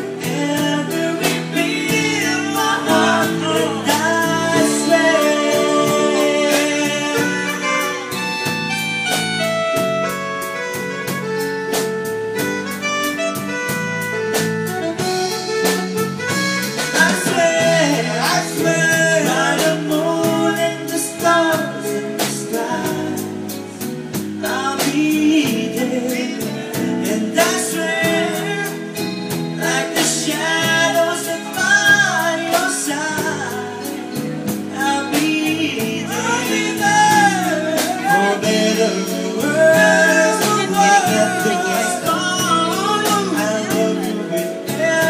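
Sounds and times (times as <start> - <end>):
keyboard backing: 0.0 - 45.0
person singing a ballad: 0.0 - 45.0.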